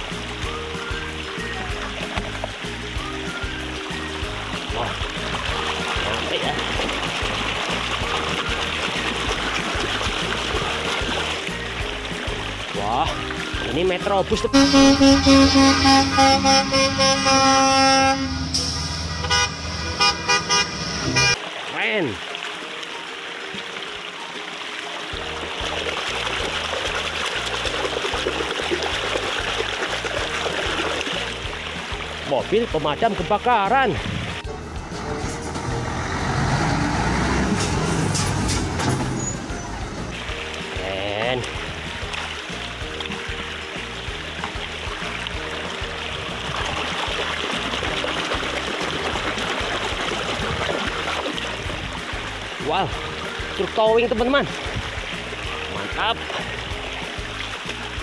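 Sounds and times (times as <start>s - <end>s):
music with rhythmic bass line: 0.0s - 21.4s, 25.2s - 58.0s
stream water rushing and splashing: 0.0s - 58.0s.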